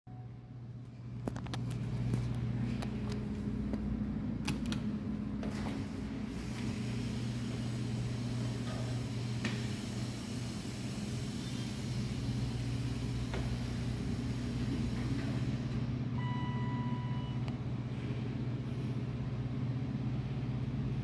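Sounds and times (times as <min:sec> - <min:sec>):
low machine hum: 0:00.1 - 0:21.0.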